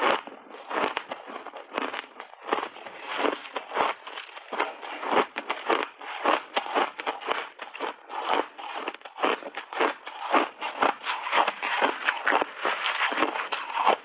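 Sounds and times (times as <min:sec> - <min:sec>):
chewing crunchy ice: 0:00.0 - 0:14.0.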